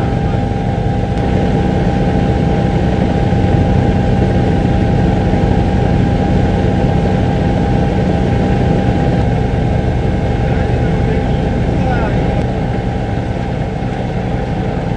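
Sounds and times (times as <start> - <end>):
helicopter drone: 0.0 - 14.9.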